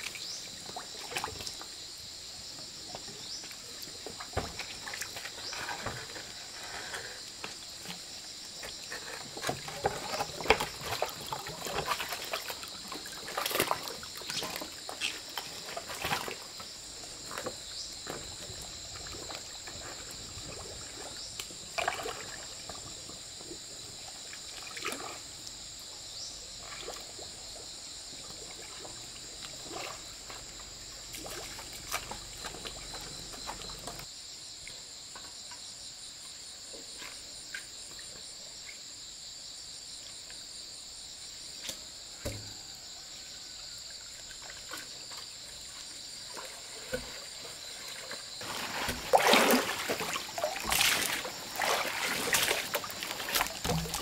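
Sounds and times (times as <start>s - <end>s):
muddy water splashing: 0.0s - 1.9s, 2.6s - 34.1s, 44.0s - 54.0s
insects droning: 0.0s - 54.0s.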